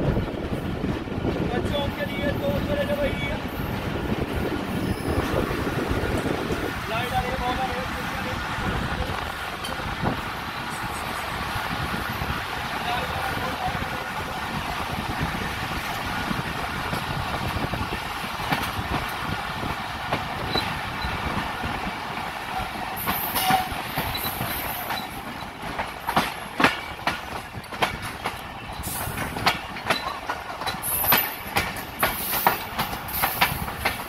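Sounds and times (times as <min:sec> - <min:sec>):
train coaches rumbling and rattling: 0:00.0 - 0:34.0
wheels clacking over rail joints: 0:03.7 - 0:34.0.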